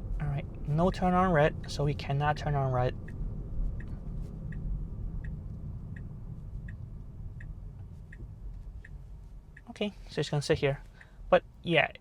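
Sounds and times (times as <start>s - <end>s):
low cabin hum: 0.0s - 12.0s
turn signal ticking: 0.0s - 12.0s.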